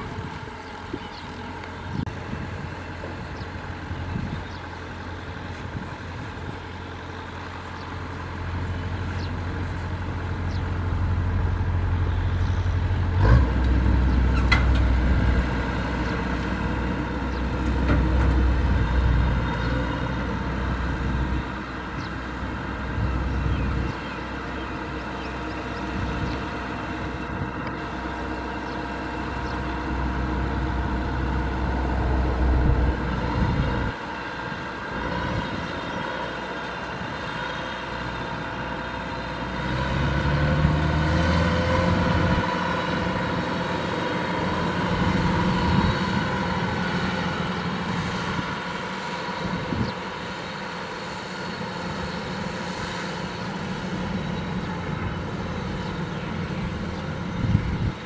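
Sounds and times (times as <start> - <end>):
diesel engine running: 0.0 - 58.0
machinery whirring: 0.0 - 58.0.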